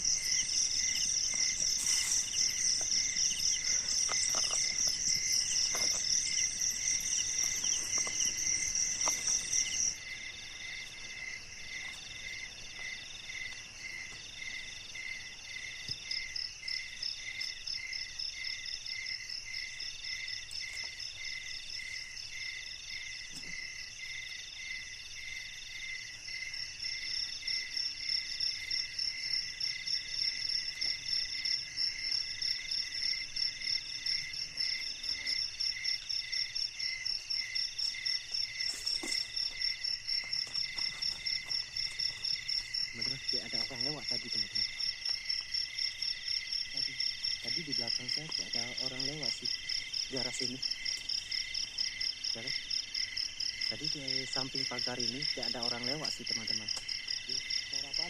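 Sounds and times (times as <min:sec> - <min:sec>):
crickets chirping: 0:00.0 - 0:58.0
insect buzz: 0:00.0 - 0:58.0
loud high insect trill: 0:00.0 - 0:58.0.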